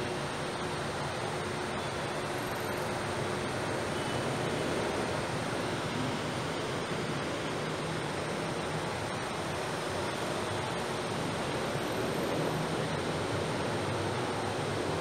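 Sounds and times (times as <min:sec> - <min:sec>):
hiss-like background noise: 0:00.0 - 0:15.0.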